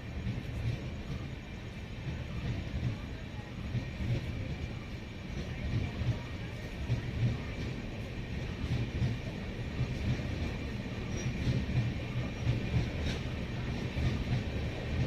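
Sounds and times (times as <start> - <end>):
train running over track: 0.0 - 15.0.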